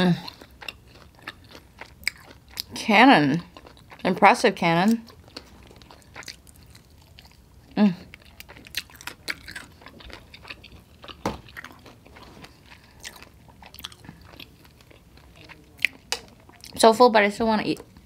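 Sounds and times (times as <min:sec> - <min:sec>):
person chewing with mouth clicks: 0:00.2 - 0:02.8, 0:03.4 - 0:04.1, 0:04.9 - 0:07.4, 0:08.1 - 0:16.8.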